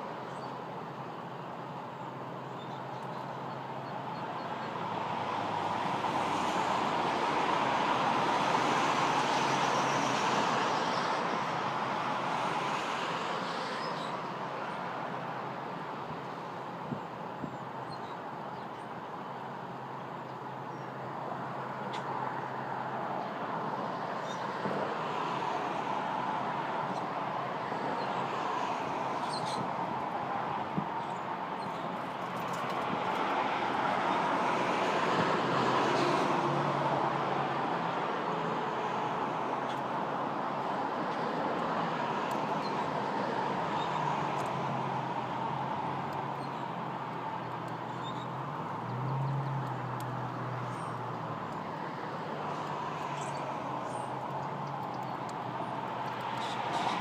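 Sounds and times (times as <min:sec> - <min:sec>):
road traffic rushing: 0:00.0 - 0:57.0.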